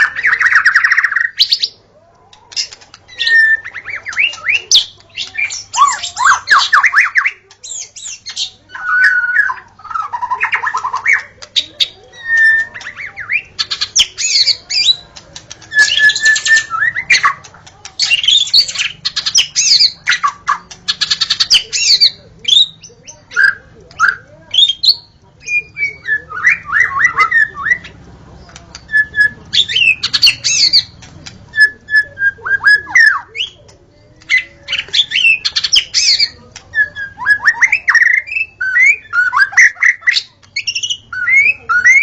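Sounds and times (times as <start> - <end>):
bird singing varied song: 0.0 - 42.0.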